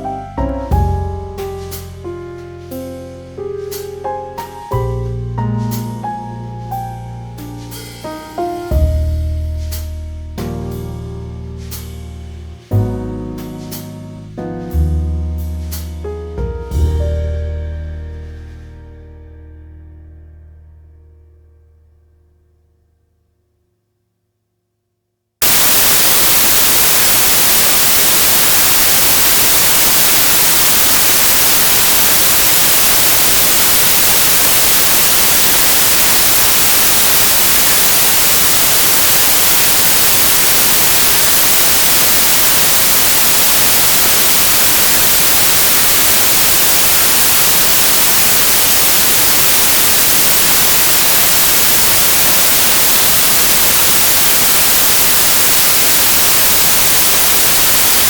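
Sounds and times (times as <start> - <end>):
steady white-noise hiss: 0.0 - 18.8, 25.4 - 58.0.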